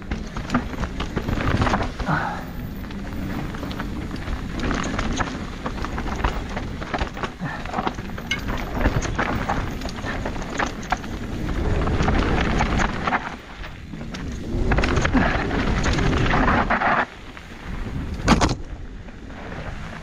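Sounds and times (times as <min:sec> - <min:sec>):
tyres crunching over stones: 0:00.0 - 0:18.7
bike clattering and rattling: 0:00.0 - 0:20.0
low rumble: 0:00.0 - 0:20.0.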